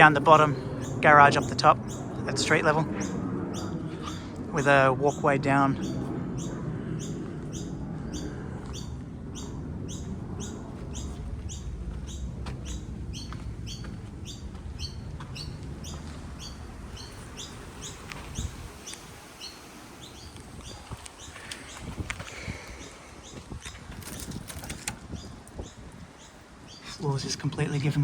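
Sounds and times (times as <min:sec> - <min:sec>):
low rumble: 0:00.0 - 0:26.2
bird chirping: 0:00.0 - 0:28.0.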